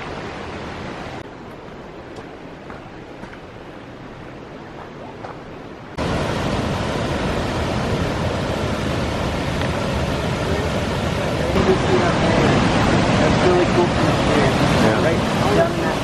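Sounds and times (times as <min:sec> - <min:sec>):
waterfall rushing over rocks: 0:00.0 - 0:16.0.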